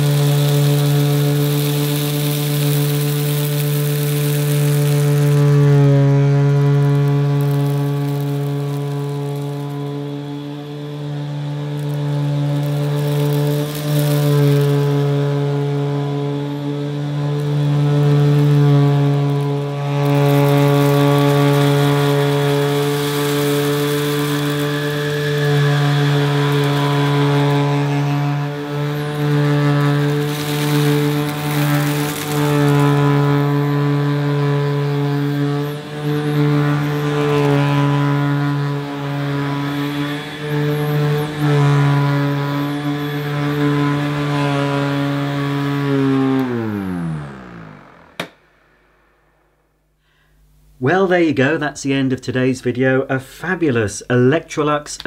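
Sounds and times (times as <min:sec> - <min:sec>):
vacuum cleaner motor humming: 0:00.0 - 0:49.2
vacuum motor winding down: 0:00.0 - 0:49.6.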